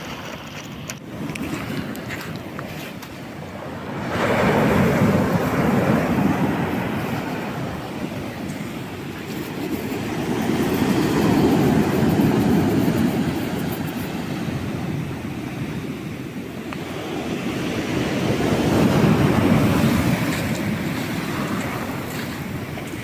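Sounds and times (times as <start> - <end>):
storm waves breaking on shore: 0.0 - 23.0.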